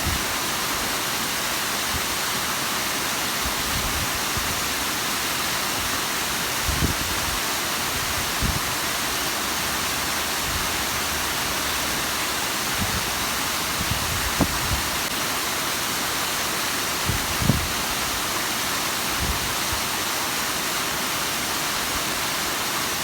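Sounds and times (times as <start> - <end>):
waterfall rushing and splashing: 0.0 - 23.0.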